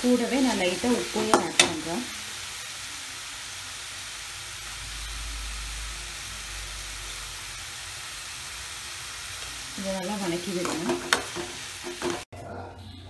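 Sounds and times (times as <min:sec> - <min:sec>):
onions and tomatoes frying: 0:00.0 - 0:13.0.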